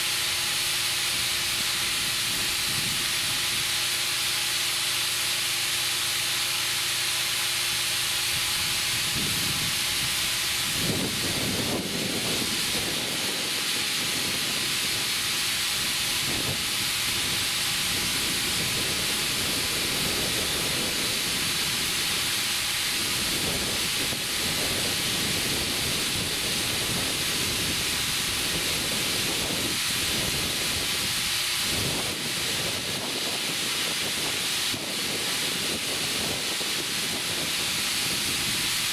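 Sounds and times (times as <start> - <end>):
compressed air hissing: 0.0 - 38.9.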